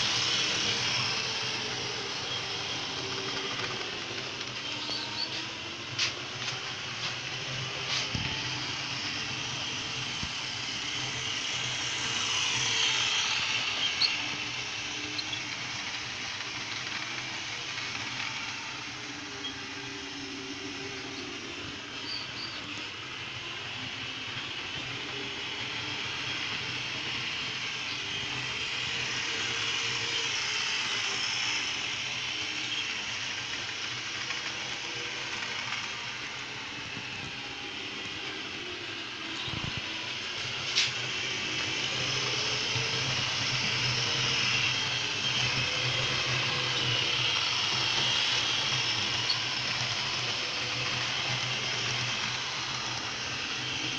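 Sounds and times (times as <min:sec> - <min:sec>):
model train motor whirring: 0:00.0 - 0:53.9
wheels rattling on rails: 0:00.0 - 0:53.9.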